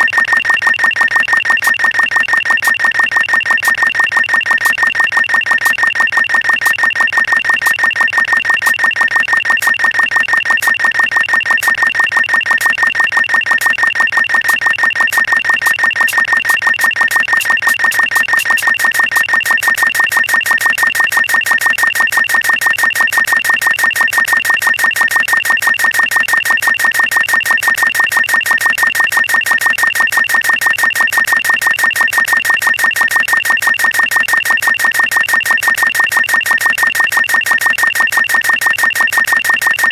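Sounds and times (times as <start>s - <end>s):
short high-pitched electronic beeps: 0.0s - 39.9s.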